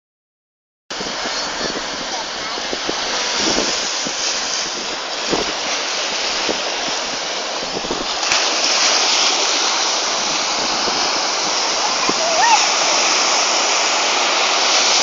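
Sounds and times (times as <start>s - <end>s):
sea waves breaking on beach: 0.9s - 15.0s.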